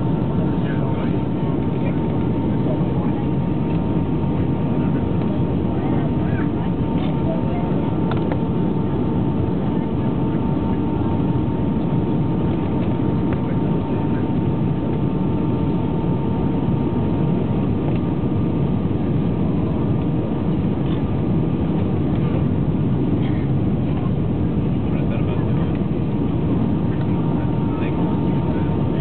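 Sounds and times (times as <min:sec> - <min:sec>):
faint steady whine: 0:00.0 - 0:29.0.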